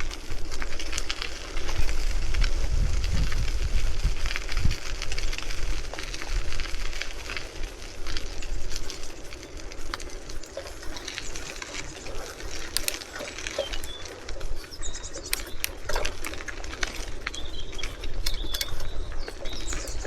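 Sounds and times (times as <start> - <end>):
bike clicks and rattles: 0.0 - 20.0
steady hiss: 0.0 - 20.0
wind rumble on microphone: 0.0 - 20.0.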